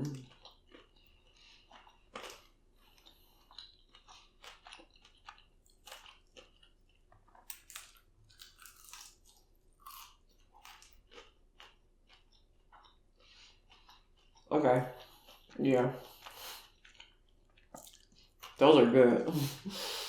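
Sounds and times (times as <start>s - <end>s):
crunchy chewing: 0.0s - 18.6s.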